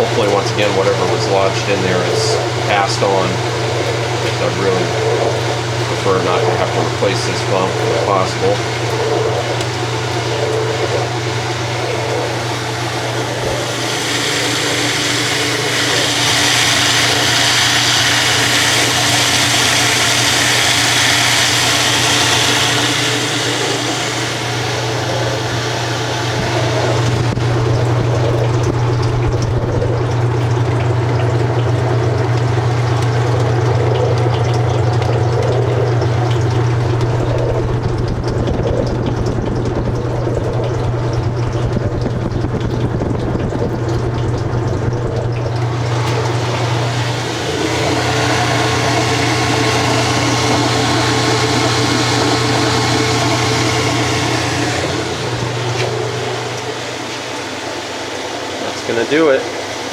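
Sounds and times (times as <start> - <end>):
washer drain pump humming: 0.0 - 59.9
water rushing through: 0.0 - 59.9.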